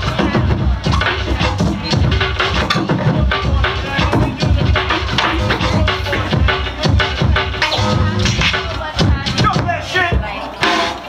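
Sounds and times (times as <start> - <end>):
hip-hop beat: 0.0 - 11.0
record scratching: 0.0 - 11.0.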